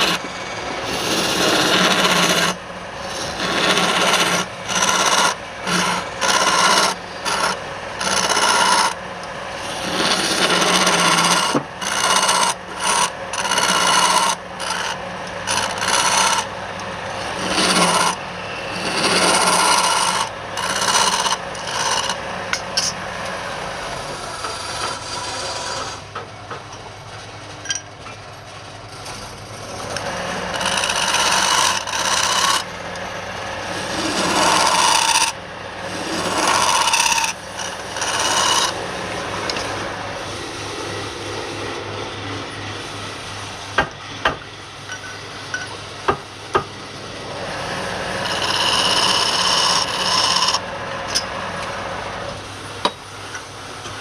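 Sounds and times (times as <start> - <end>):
wood lathe humming: 0.0 - 26.0, 29.0 - 43.6, 46.1 - 53.8
wood scraping on spinning workpiece: 0.0 - 26.1, 28.9 - 42.1, 47.2 - 51.3.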